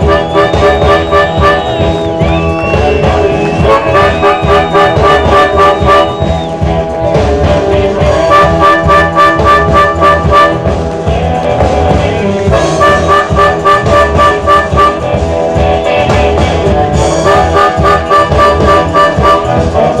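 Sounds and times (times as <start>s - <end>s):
drum beat: 0.0s - 20.0s
guitar: 0.0s - 20.0s
lead line of held notes: 0.0s - 20.0s
live blues band playing: 0.0s - 20.0s.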